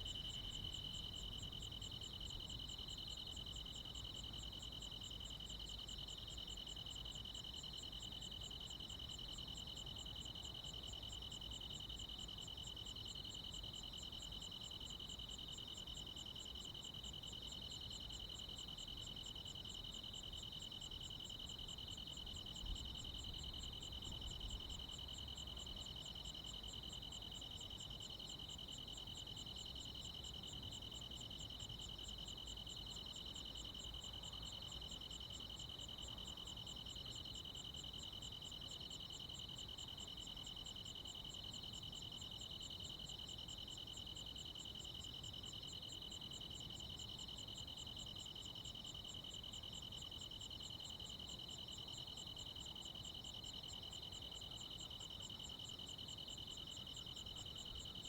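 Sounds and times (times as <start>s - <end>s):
crickets and insects chirping: 0.0s - 58.0s.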